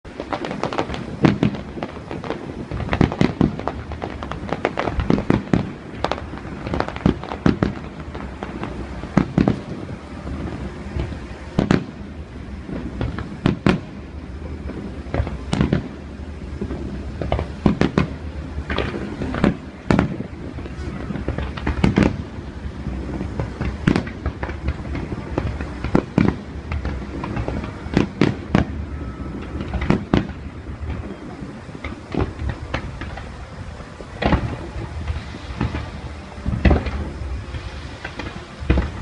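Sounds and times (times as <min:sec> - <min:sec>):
fireworks bangs and pops: 0:00.0 - 0:39.0.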